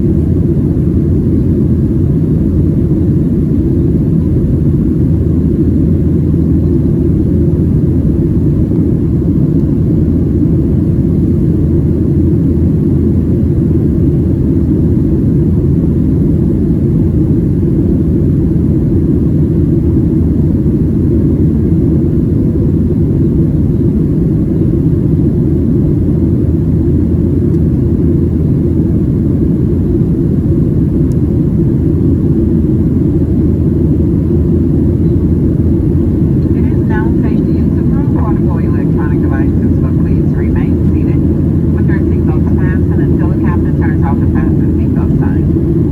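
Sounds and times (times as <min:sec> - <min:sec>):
jet cabin drone: 0:00.0 - 0:45.9.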